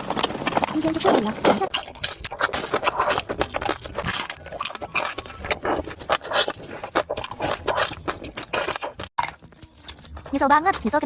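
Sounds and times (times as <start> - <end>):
sharp crunches: 0.0 - 10.3
chewing and biting: 0.0 - 11.0.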